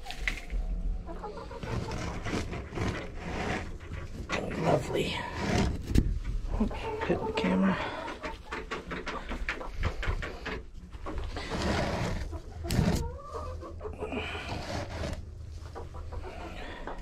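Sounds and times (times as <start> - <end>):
chickens clucking: 0.0 - 5.2, 5.8 - 17.0
sharp knocks and scrapes: 1.4 - 13.5, 14.1 - 17.0.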